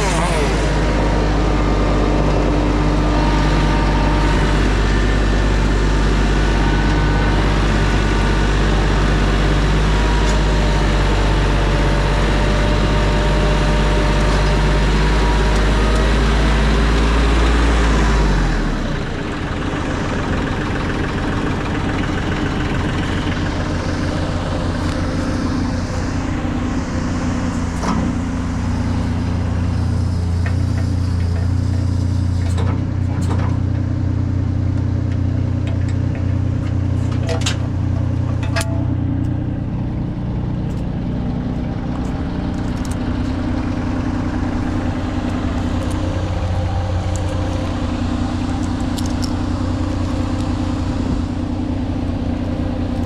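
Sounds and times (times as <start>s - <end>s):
large engine running: 0.0s - 53.0s.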